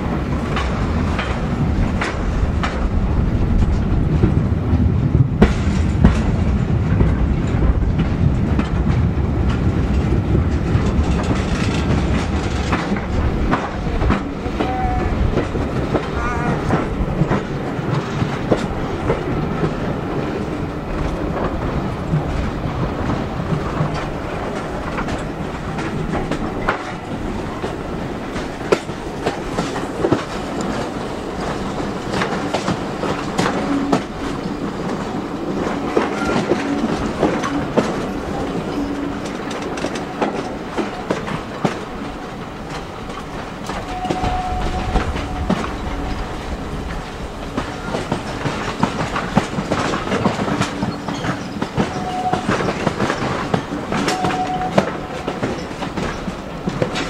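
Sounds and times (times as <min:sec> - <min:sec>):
train coaches rumbling on track: 0:00.0 - 0:57.0
wheels clacking over rail joints: 0:00.0 - 0:57.0.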